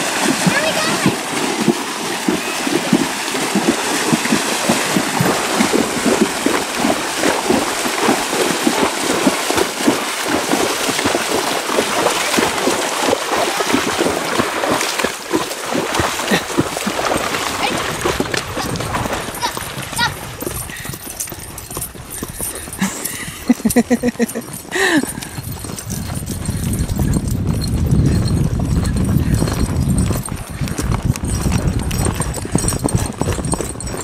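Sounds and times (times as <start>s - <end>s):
horses splashing through water: 0.0s - 34.0s.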